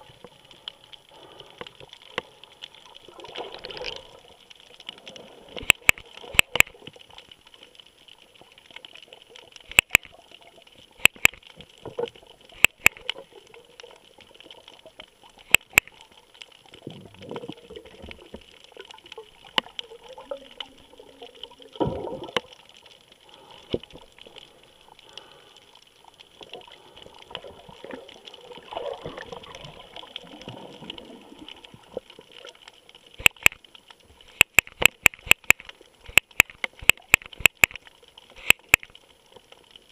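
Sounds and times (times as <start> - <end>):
underwater wash: 0.0 - 39.9
water swish: 0.0 - 39.9.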